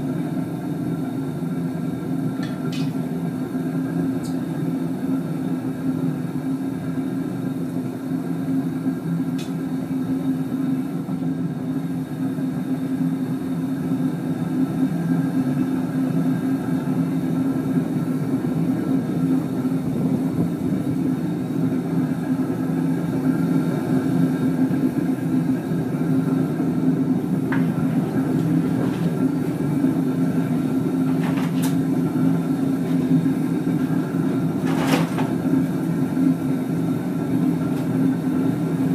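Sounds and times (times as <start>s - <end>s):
gas burner rumbling: 0.0s - 38.9s.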